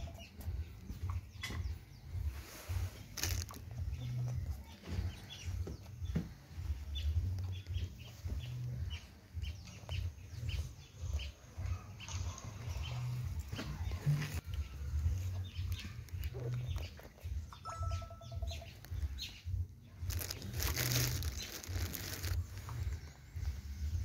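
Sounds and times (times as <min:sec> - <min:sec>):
hen peeping: 0:00.0 - 0:24.0.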